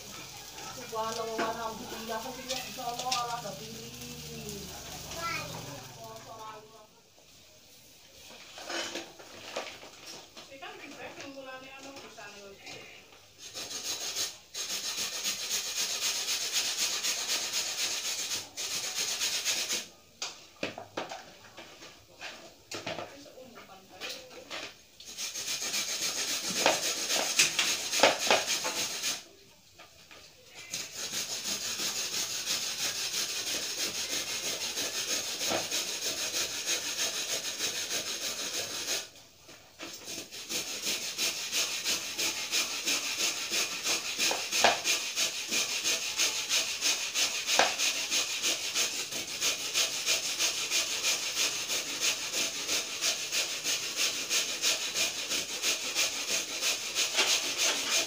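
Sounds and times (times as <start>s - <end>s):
hand tool scraping: 0.0s - 5.8s, 8.3s - 11.1s, 11.7s - 19.9s, 23.6s - 29.4s, 30.5s - 58.0s.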